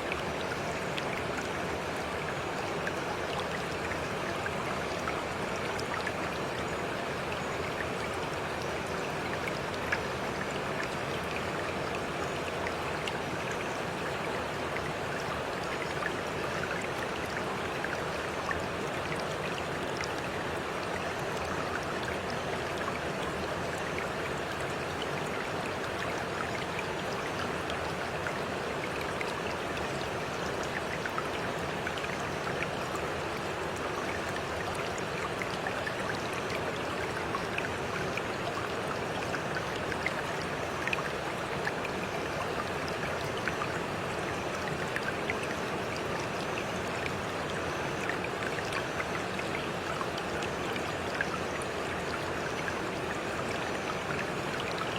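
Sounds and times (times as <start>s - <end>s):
stream flowing: 0.0s - 54.9s
water splashes and drips: 0.0s - 54.9s.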